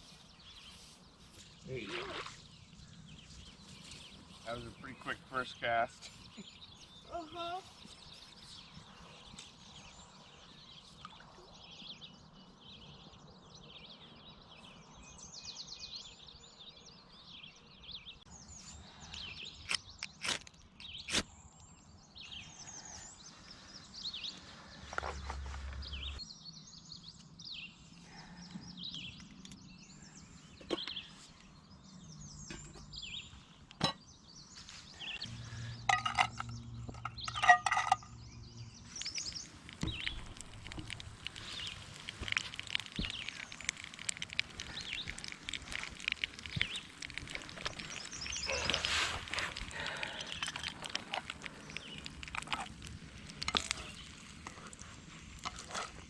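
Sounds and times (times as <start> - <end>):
birds chirping and singing: 0.0 - 11.0, 20.8 - 56.0.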